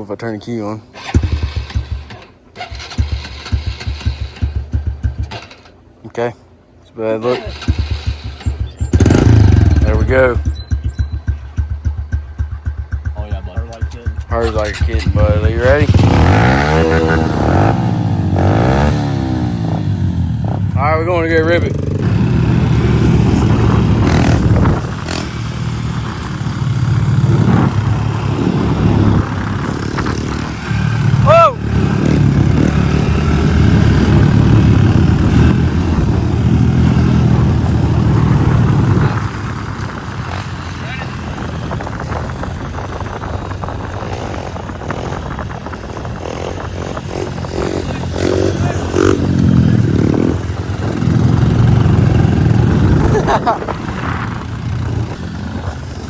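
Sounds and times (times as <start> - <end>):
motorbike engine revving: 1.0 - 5.8, 7.2 - 56.0.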